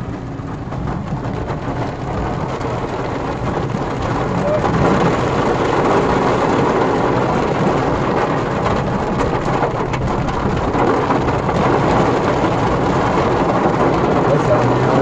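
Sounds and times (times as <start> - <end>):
heavy rain on car roof: 0.0 - 15.0.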